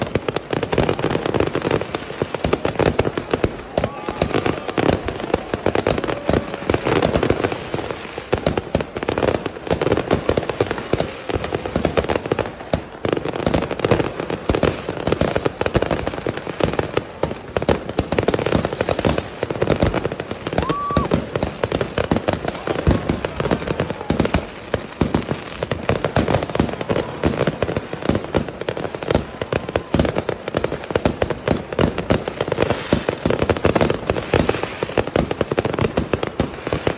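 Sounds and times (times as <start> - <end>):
fireworks and firecrackers banging: 0.0 - 36.9.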